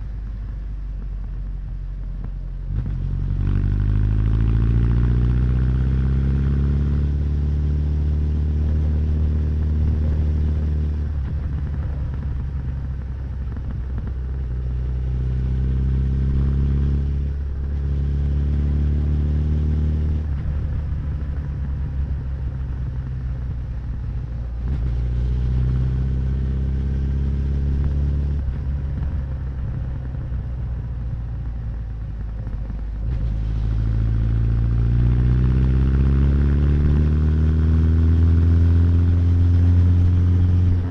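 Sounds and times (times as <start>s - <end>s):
motorcycle engine revving: 2.7s - 40.9s.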